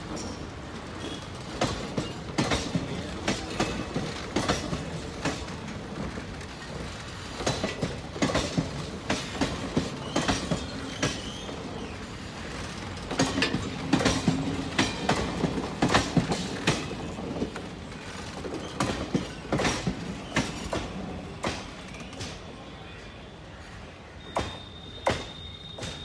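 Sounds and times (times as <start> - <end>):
train running gear rumble: 0.0 - 22.5
wheels clacking over rail joints: 0.0 - 22.5.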